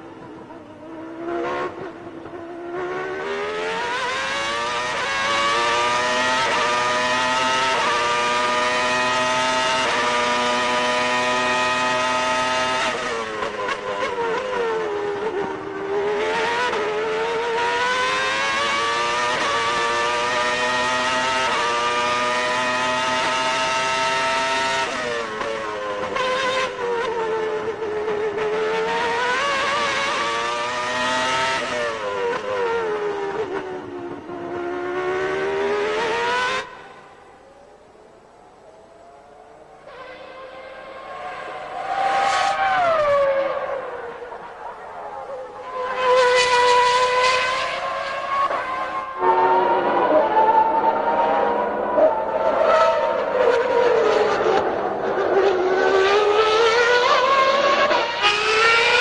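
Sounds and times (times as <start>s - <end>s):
racing car engine howling: 2.9s - 59.0s.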